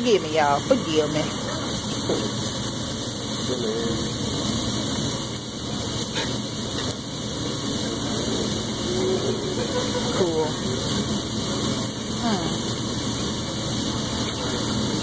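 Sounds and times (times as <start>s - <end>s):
food sizzling on a grill: 0.0s - 15.0s
restaurant hum: 0.0s - 15.0s.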